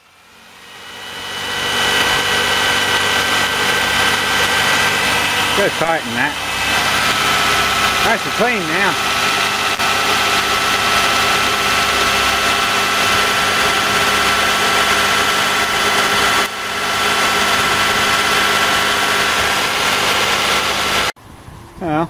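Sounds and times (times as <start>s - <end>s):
car engine idling: 0.0s - 21.2s.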